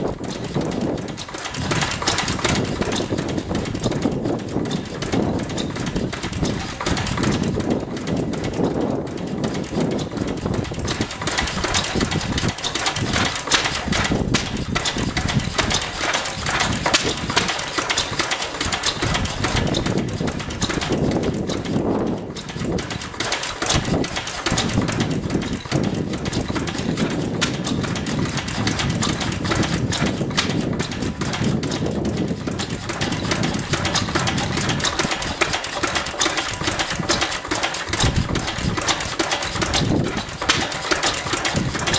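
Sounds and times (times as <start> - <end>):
stationary engine running: 0.0 - 41.9.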